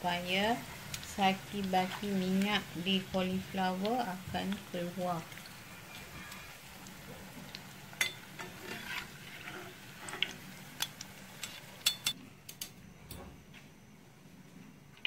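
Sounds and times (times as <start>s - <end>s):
oil sizzling faintly: 0.0s - 12.2s.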